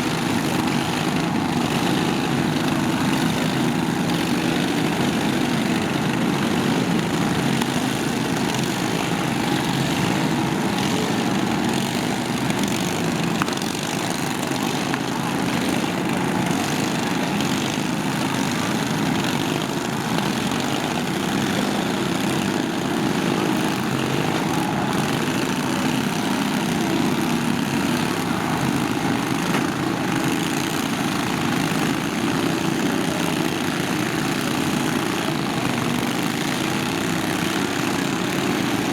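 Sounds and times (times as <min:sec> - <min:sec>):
lawn tractor engines running: 0:00.0 - 0:38.9.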